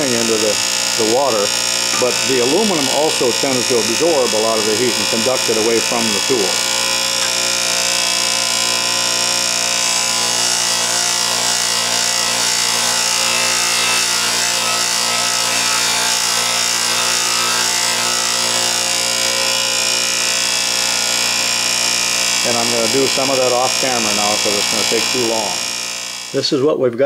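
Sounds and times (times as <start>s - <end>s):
tool grinding on bench grinder: 0.0s - 26.5s
grinder motor hum: 0.0s - 26.6s.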